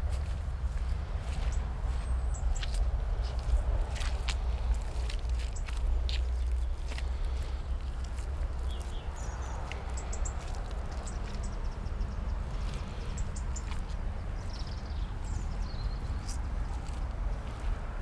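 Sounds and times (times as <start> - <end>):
low rumble and hiss: 0.0 - 18.0
small birds chirping: 0.0 - 18.0.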